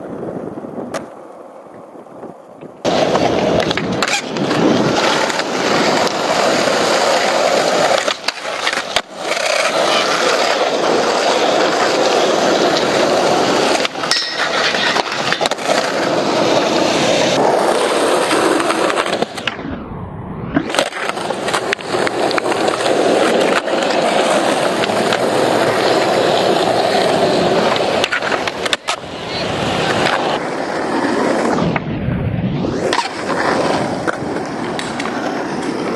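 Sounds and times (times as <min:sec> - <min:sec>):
skateboard wheels rolling on concrete: 0:00.0 - 0:35.9
skateboard clacking: 0:00.6 - 0:19.5, 0:20.6 - 0:31.5, 0:32.8 - 0:35.9.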